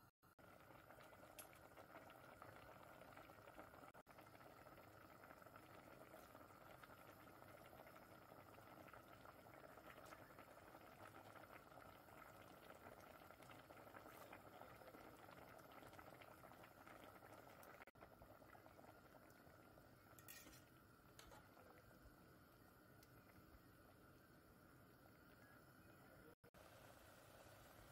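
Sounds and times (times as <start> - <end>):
food mixture bubbling: 0.2 - 27.9.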